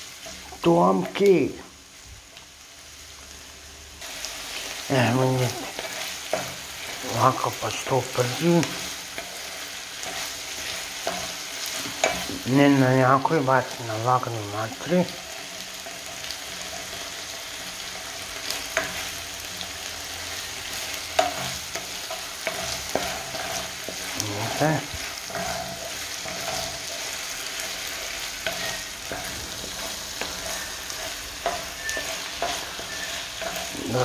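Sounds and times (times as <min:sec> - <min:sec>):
meat and rice sizzling in oil: 0:00.0 - 0:34.0
wooden spatula scraping a pan: 0:04.0 - 0:34.0.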